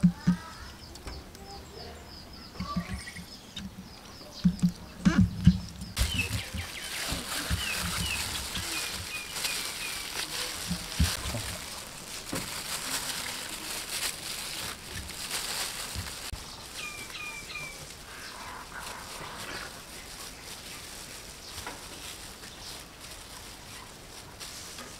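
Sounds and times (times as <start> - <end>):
small birds chirping: 0.0 - 12.6, 13.2 - 24.0
plastic gloves crinkling: 4.5 - 24.9.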